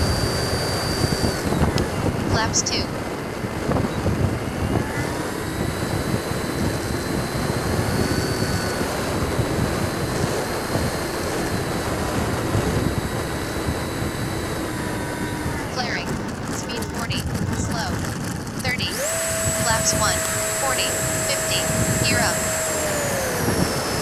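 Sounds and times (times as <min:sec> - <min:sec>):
electric ducted fan whining: 0:00.0 - 0:24.0
gusty wind buffeting microphone: 0:00.0 - 0:24.0.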